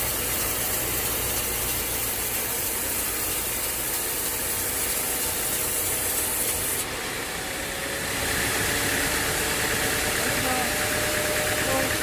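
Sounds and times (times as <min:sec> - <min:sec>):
sawmill machinery hissing: 0:00.0 - 0:12.0.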